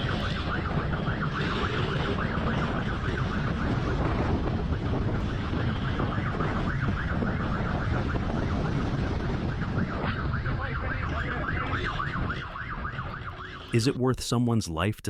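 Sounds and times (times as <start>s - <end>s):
engine and wind rumble: 0.0s - 13.7s
motorcycle siren warbling: 0.0s - 13.8s.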